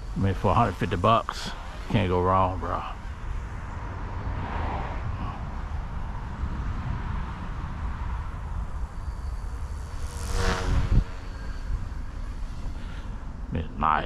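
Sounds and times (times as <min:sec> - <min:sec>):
rc helicopter whining: 0:00.0 - 0:14.0
wind rumble on microphone: 0:00.0 - 0:14.0.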